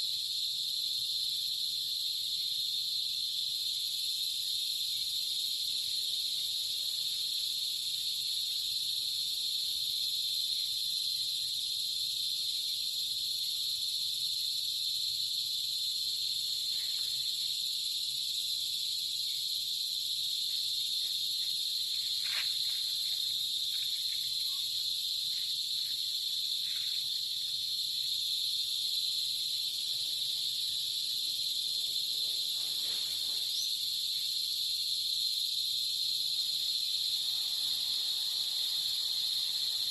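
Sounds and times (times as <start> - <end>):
night insects droning: 0.0 - 39.9.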